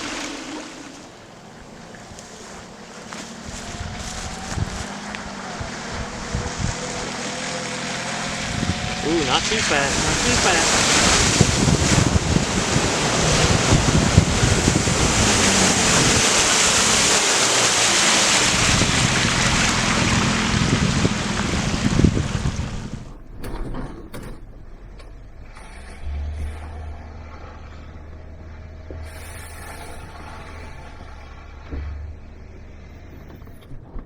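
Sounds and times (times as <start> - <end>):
vehicle engine under load: 0.0 - 34.0
water splashing: 0.0 - 34.0.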